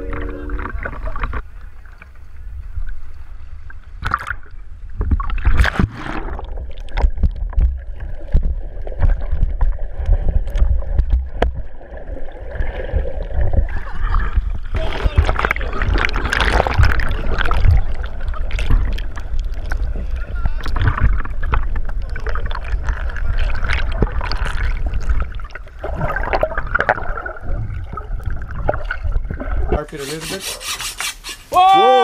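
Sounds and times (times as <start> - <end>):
water sloshing and gurgling: 0.0 - 31.5.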